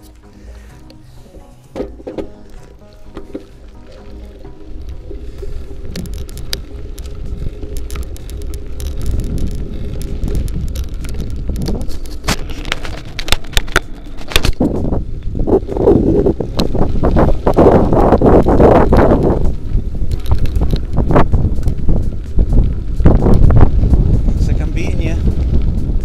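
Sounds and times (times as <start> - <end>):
low rolling rumble: 0.0 - 26.0
bicycle rattling and clicking: 1.8 - 26.0.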